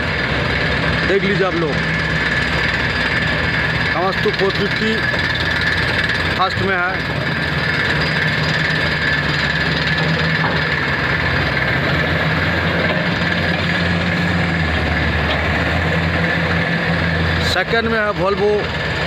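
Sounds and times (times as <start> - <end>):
heavy diesel engines running: 0.0 - 19.0.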